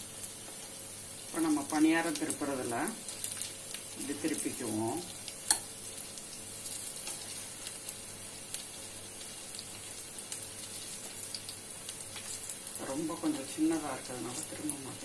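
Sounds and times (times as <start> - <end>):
oil crackling sizzle: 0.0 - 15.0.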